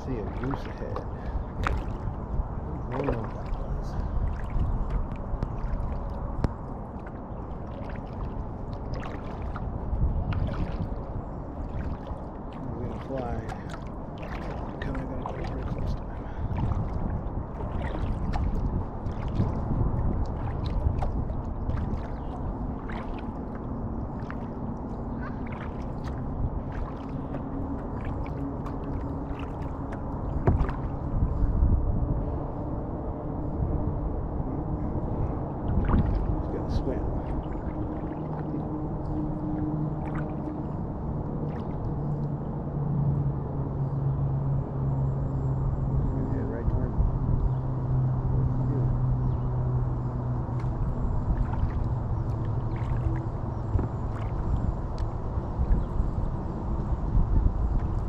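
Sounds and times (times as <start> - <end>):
water splashing around kayak: 0.0 - 58.0.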